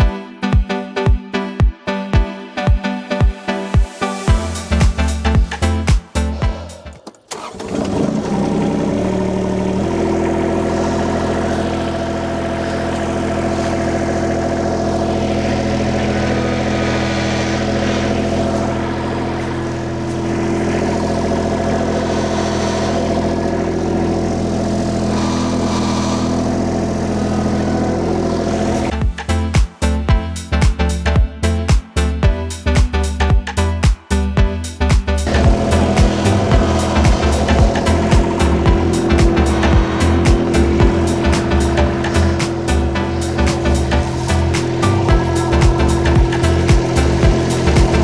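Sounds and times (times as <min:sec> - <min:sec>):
diesel engine starting and running: 0:03.5 - 0:48.0.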